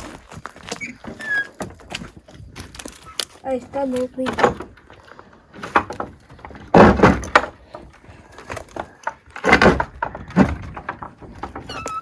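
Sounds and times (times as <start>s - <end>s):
wooden clattering and knocking: 0.0s - 12.0s.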